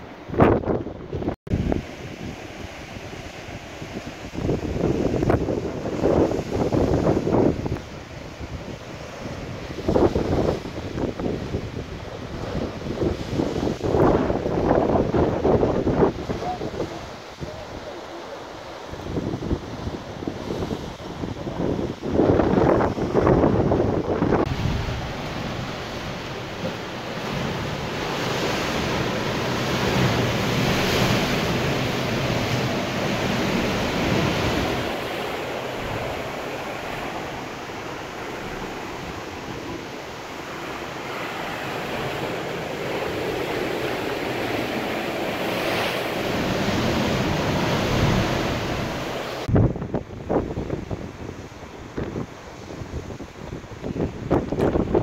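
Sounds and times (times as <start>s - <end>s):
gusts thumping microphone: 0.0s - 2.4s, 3.8s - 55.0s
wind on microphone: 0.0s - 55.0s.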